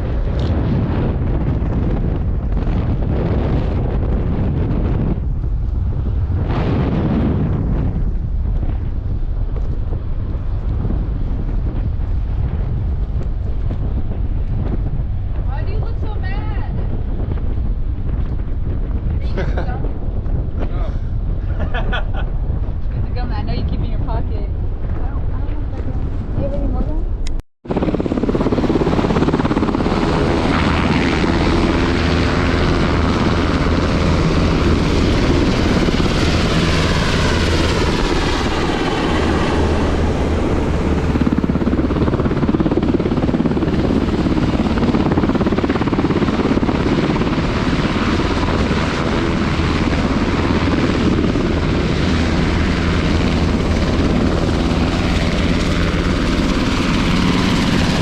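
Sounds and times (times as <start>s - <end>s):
aircraft engines running loudly: 0.0s - 27.0s, 27.6s - 58.0s.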